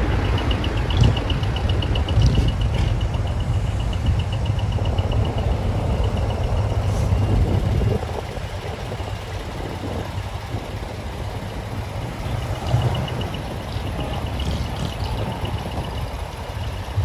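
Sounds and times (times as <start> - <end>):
fast high-pitched ticking: 0.0 - 17.0
heavy diesel truck engines rumbling: 0.0 - 17.0.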